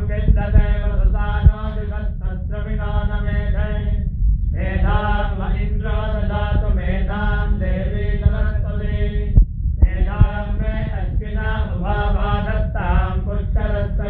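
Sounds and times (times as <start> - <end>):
person chanting mantras: 0.0 - 4.0, 4.6 - 14.0
low rumble: 0.0 - 14.0.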